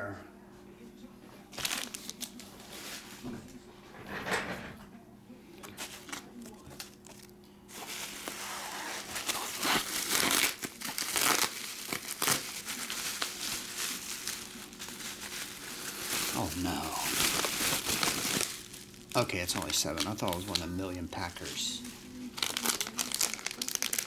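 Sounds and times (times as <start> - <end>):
bubble wrap rustling and crackling: 1.5 - 3.2, 5.8 - 24.0.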